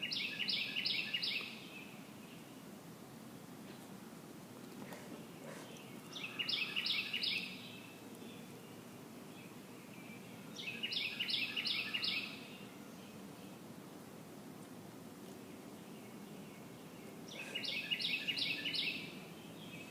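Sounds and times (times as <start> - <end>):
low outdoor hum: 0.0 - 19.9
songbird singing: 0.0 - 19.9.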